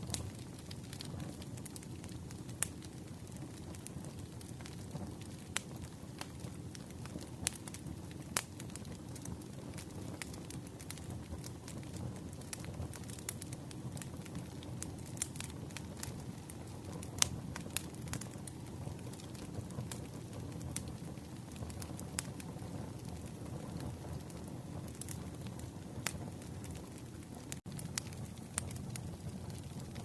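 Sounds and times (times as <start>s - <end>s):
campfire flames rushing: 0.0s - 30.0s
fire pops and snaps: 0.0s - 30.0s.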